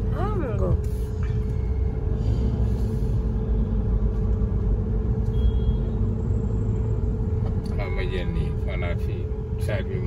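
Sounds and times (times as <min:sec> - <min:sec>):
car engine and road rumble: 0:00.0 - 0:10.0
constant hum: 0:00.0 - 0:10.0.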